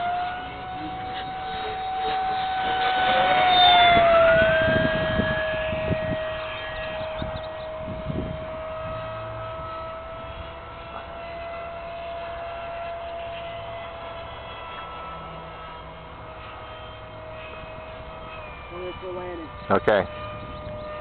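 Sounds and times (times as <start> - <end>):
electric ducted-fan jet whining: 0.0 - 21.0.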